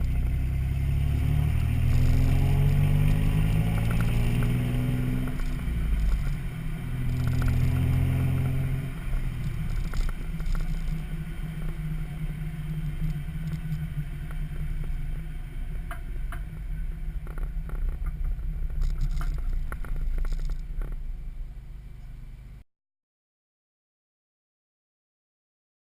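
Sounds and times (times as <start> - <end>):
deep engine exhaust drone: 0.0 - 22.6.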